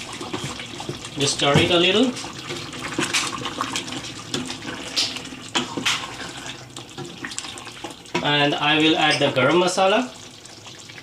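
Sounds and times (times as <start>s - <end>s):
spoon stirring thick gravy: 0.0s - 9.7s.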